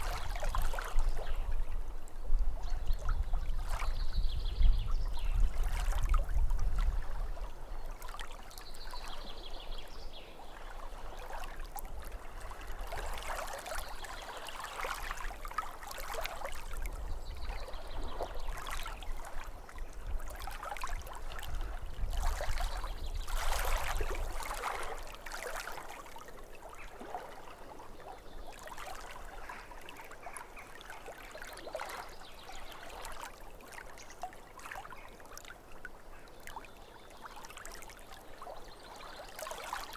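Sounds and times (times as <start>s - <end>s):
lake water lapping at shore: 0.0s - 4.4s, 5.2s - 39.9s.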